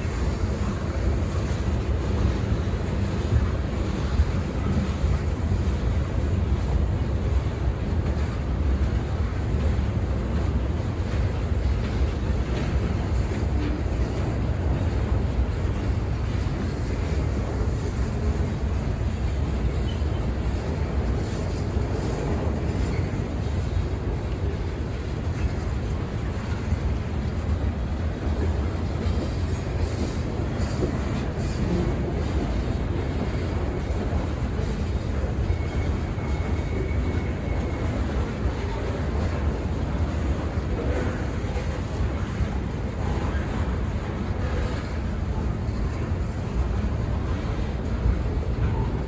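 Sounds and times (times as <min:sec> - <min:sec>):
freight train rumbling past: 0:00.0 - 0:49.0.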